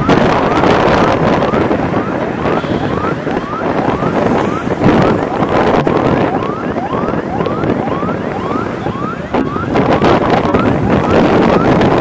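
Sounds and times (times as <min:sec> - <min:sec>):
road and wind noise: 0:00.0 - 0:12.0
vehicle siren yelping: 0:00.0 - 0:12.0.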